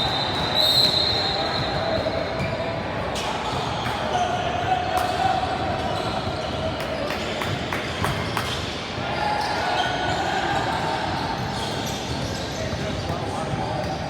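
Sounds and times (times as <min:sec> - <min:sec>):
murmur of voices: 0:00.0 - 0:14.0.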